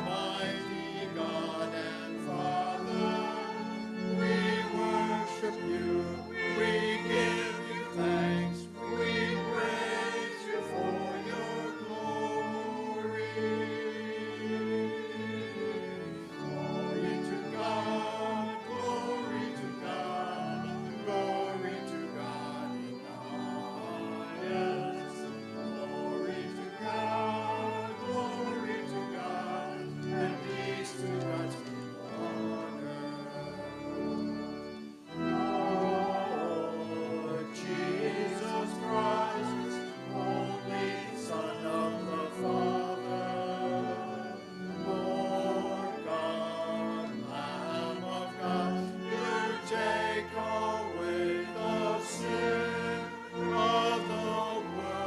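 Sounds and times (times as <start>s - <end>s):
vocal group singing: 0.0s - 15.9s, 16.6s - 33.9s, 35.3s - 55.0s
instrumental accompaniment: 0.0s - 55.0s.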